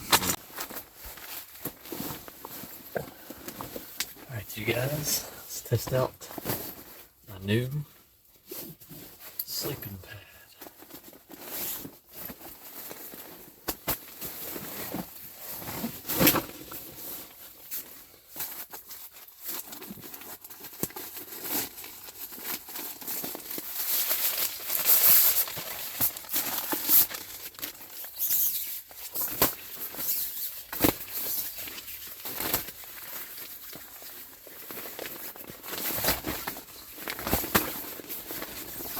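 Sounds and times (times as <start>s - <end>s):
sleeping pad packaging crinkling: 0.0s - 7.7s, 10.6s - 38.9s.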